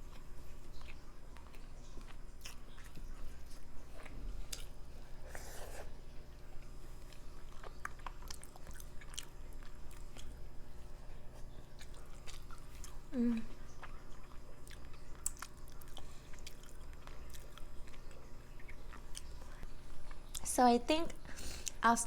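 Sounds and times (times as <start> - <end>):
close chewing food: 0.0 - 20.5.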